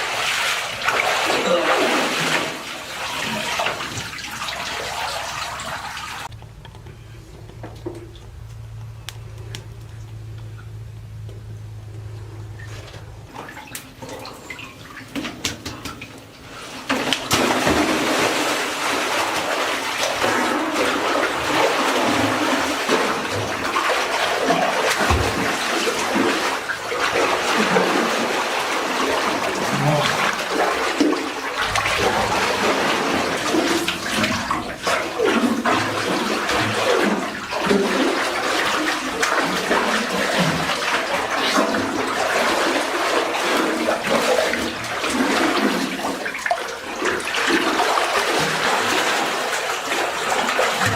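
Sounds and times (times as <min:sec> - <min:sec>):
water pouring and splashing: 0:00.0 - 0:06.3, 0:12.6 - 0:50.9.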